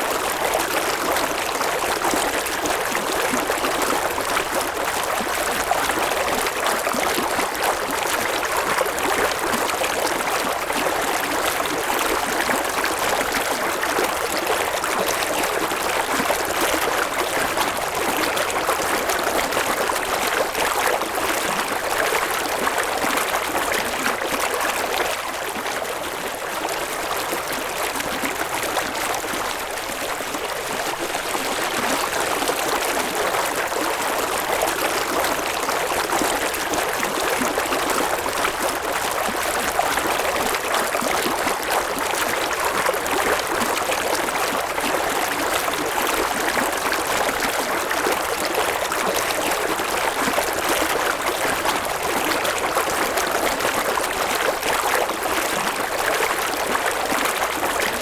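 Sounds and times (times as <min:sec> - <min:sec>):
river water flowing over rocks: 0:06.4 - 0:58.0.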